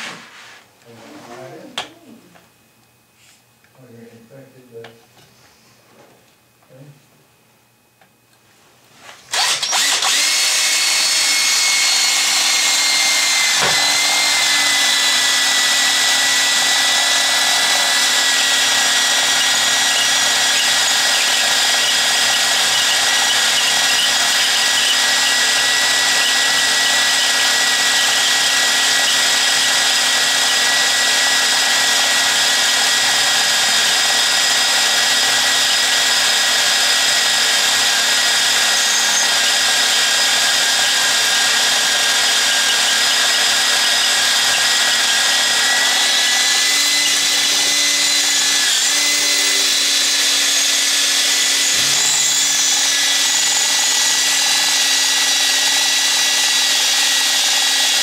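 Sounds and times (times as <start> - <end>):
electric drill whining: 9.3 - 58.0.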